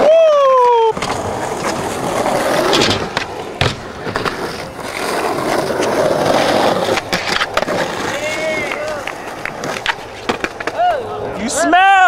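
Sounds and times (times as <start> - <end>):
skateboard clacks: 0.0 - 11.0
skateboard wheels rolling on asphalt: 0.0 - 12.0.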